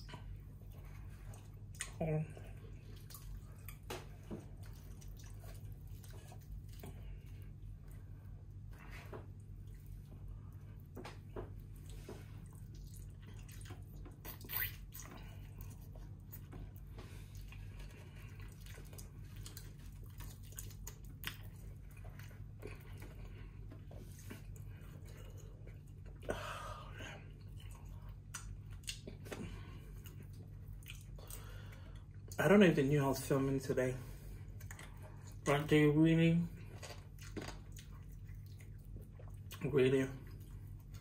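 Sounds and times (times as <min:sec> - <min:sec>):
tearing and chewing chicken: 0:00.0 - 0:26.3, 0:27.2 - 0:32.4, 0:36.5 - 0:41.0
steady low hum: 0:00.0 - 0:41.0.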